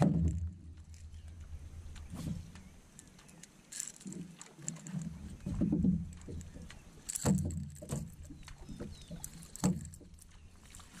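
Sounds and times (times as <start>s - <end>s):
water sloshing around a boat: 0.0s - 11.0s.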